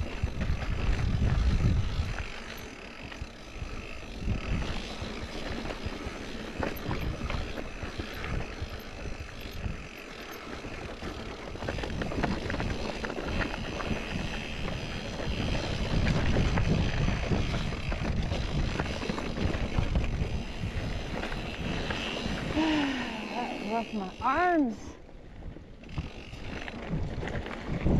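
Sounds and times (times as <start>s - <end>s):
bike tyres rolling over rock: 0.0s - 24.4s, 25.4s - 27.9s
bike rattling: 0.0s - 27.9s
wind rumbling on microphone: 0.0s - 27.9s.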